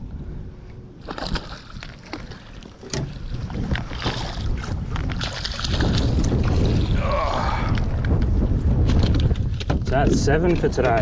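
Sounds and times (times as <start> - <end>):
wind on microphone: 0.0 - 11.0
water splashing and sloshing: 1.0 - 11.0.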